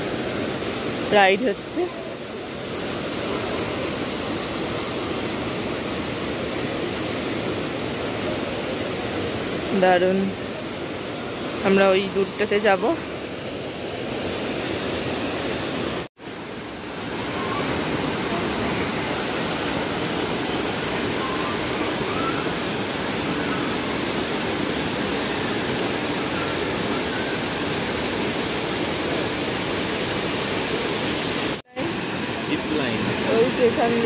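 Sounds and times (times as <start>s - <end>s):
water cascading over rocks: 0.0s - 34.0s
waterfall rushing: 0.0s - 34.0s.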